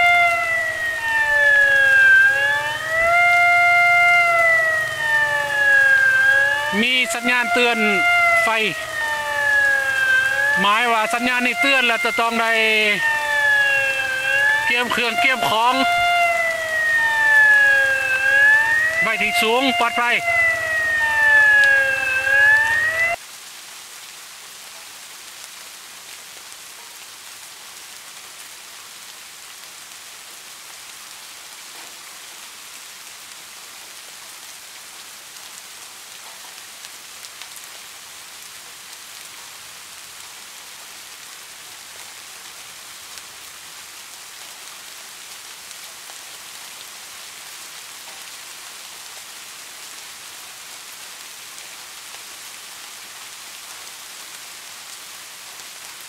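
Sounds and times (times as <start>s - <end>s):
heavy rain hiss: 3.8s - 56.0s.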